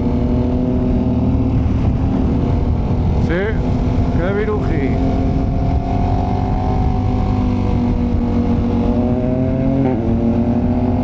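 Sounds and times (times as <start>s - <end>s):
motorcycle engine pulling uphill: 0.0s - 11.0s.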